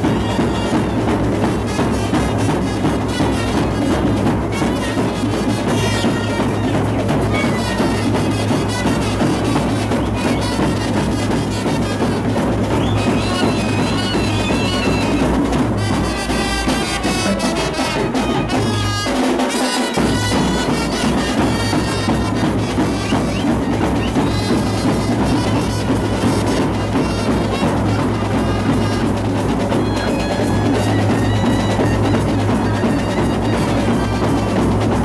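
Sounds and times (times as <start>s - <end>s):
drums: 0.0s - 35.0s
trumpets and clarinet melody: 0.0s - 35.0s.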